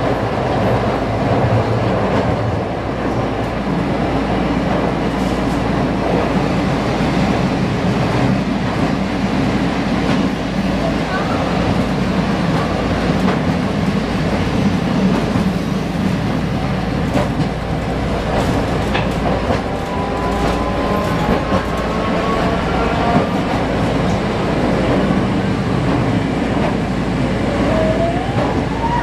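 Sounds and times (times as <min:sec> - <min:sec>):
tram wheels rumbling on rails: 0:00.0 - 0:29.0.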